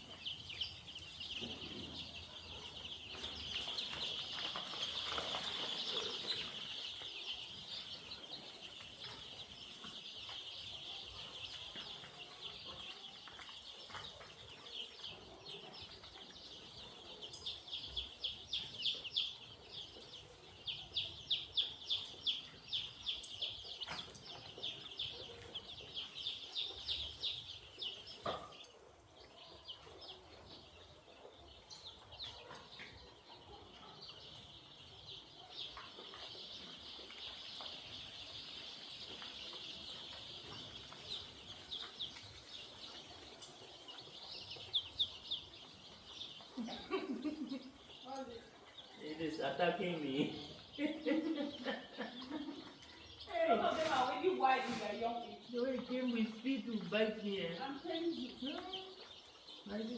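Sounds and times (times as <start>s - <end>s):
young chickens peeping: 0.0s - 59.9s.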